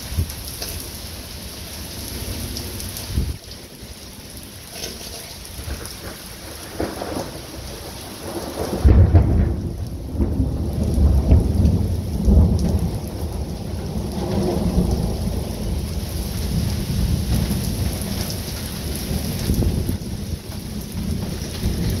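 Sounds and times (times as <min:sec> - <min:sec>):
steady rain falling: 0:00.0 - 0:22.0
thunder rumbling: 0:00.0 - 0:22.0.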